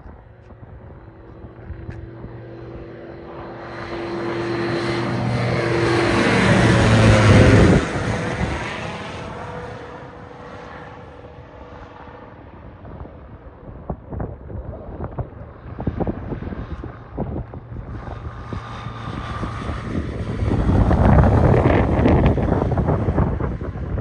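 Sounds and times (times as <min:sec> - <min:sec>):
propeller airplane passing overhead: 0:00.0 - 0:24.0.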